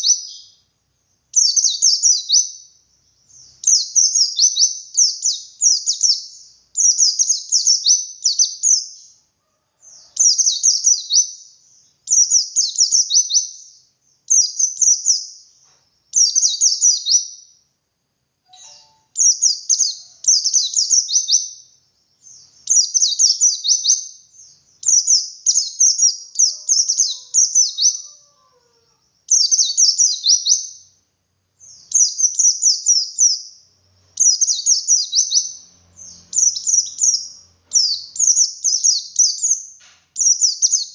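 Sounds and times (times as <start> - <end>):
bird twittering song: 0.0 - 17.7, 18.5 - 40.9.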